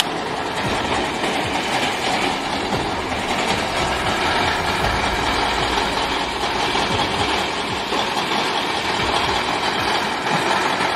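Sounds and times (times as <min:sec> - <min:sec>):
truck diesel engine under load: 0:00.0 - 0:10.9.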